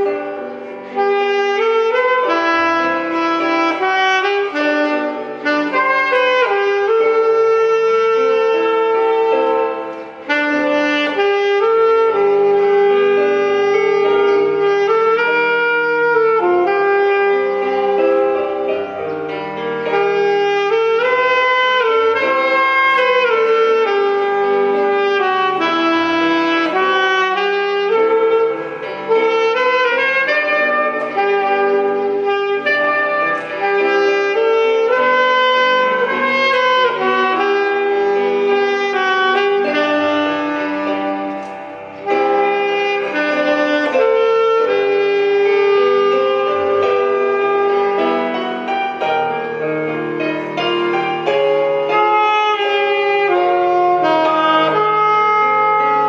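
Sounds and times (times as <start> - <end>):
saxophone melody: 0.0 - 56.0.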